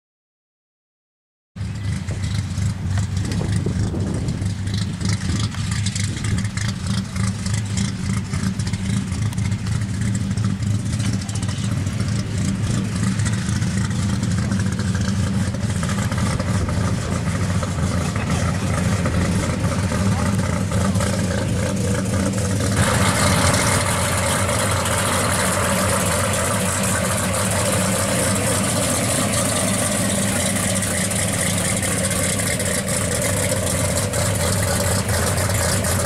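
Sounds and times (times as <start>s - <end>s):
car engine exhaust rumble: 1.6s - 36.0s.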